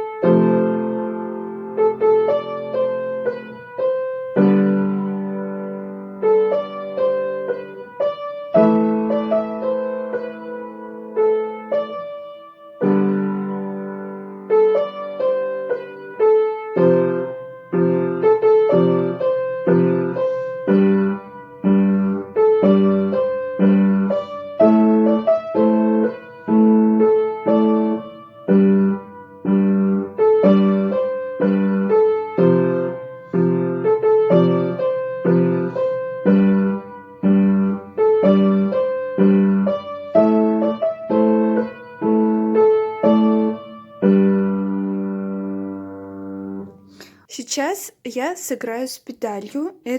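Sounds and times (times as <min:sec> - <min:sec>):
piano melody and chords: 0:00.0 - 0:47.1.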